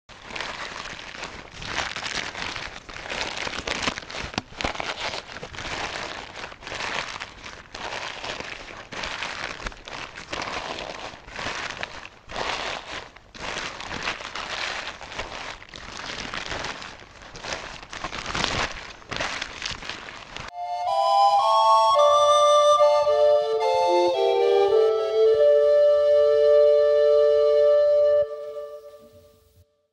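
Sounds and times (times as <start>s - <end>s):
plastic sheeting crinkling: 0.1s - 29.6s.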